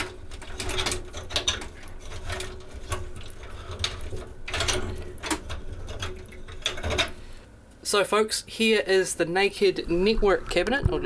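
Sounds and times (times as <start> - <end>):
cables rattling and rubbing: 0.0 - 7.3, 9.4 - 11.0
faint steady hum: 0.0 - 11.0.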